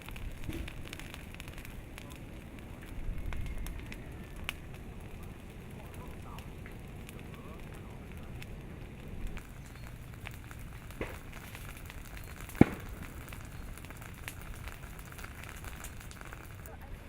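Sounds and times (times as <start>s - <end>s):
sharp cracks: 0.0s - 16.8s
lava crackling and popping: 0.0s - 17.0s.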